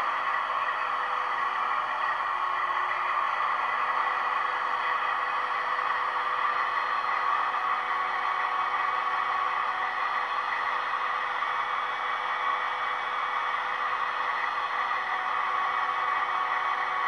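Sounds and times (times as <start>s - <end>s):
diesel engine idle from small speaker: 0.0s - 17.0s.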